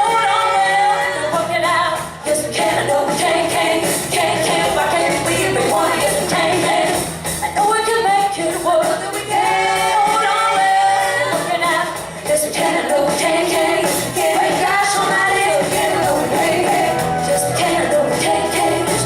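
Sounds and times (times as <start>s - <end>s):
live band playing: 0.0s - 19.0s
woman singing: 0.0s - 19.0s.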